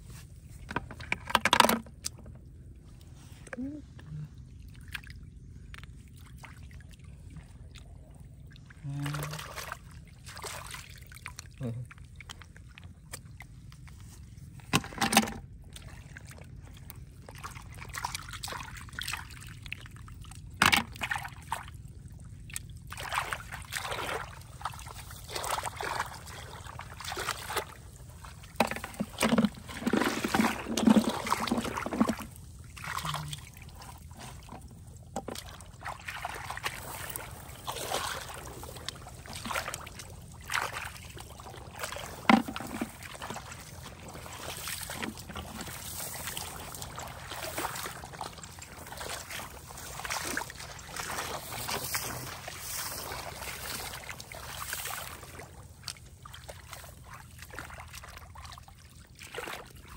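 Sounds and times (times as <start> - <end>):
muddy water sloshing: 0.0 - 59.9.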